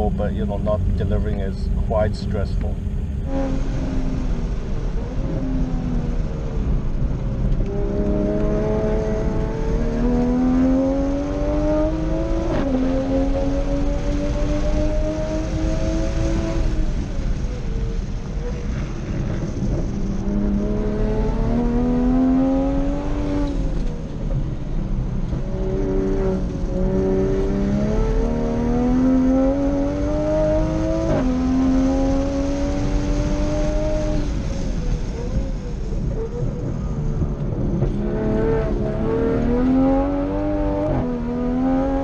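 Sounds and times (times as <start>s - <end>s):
car engine revving: 0.0s - 17.4s, 18.5s - 36.4s, 37.6s - 42.0s.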